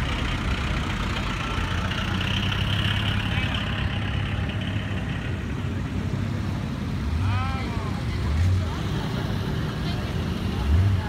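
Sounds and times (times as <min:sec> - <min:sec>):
car engines rolling past: 0:00.0 - 0:11.0.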